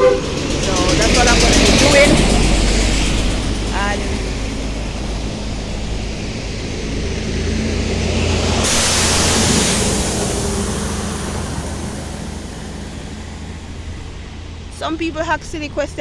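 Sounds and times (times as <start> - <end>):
vehicle driving past: 0.0 - 14.8
steady low rumble: 0.0 - 16.0.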